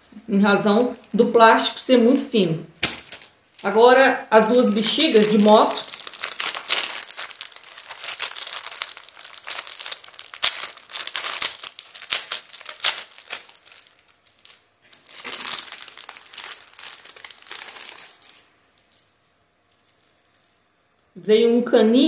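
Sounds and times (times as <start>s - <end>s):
plastic packet crinkling: 2.8s - 3.8s, 4.4s - 21.1s.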